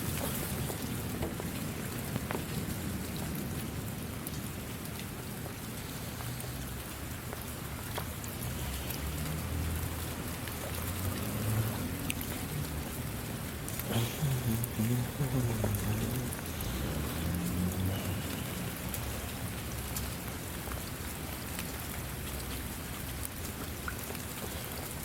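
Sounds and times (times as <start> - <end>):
raindrops striking surfaces: 0.0 - 25.0
steady rain: 0.0 - 25.0.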